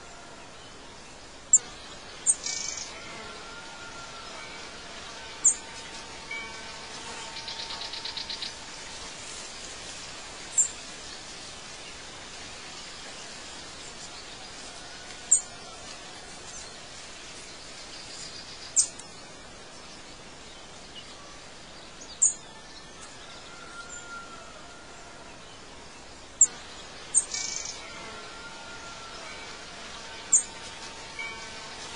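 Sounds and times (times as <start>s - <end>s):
outdoor background hiss: 0.0s - 31.9s.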